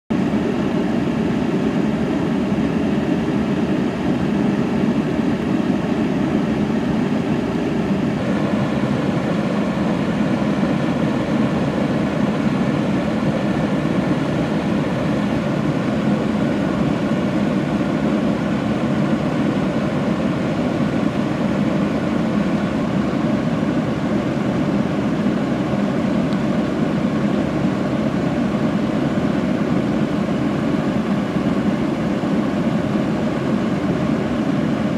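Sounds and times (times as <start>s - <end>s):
faint engine-like hum: 0.1s - 34.9s.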